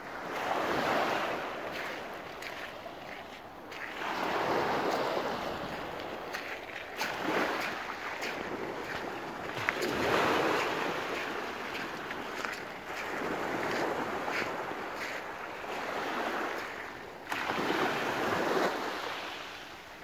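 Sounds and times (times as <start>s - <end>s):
waves washing on pebbles: 0.0s - 19.7s.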